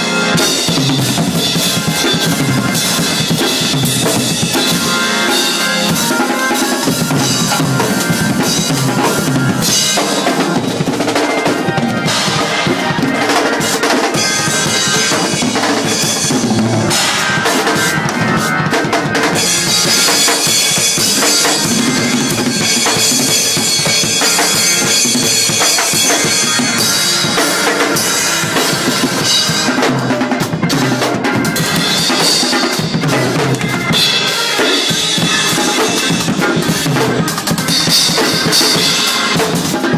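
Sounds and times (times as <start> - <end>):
fast drum fills: 0.0 - 39.9.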